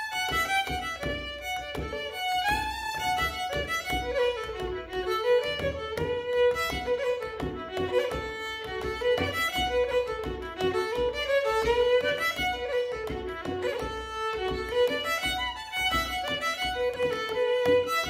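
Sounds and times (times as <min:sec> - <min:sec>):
fiddle playing a reel: 0:00.0 - 0:18.0
frame drum thumps: 0:00.0 - 0:18.0.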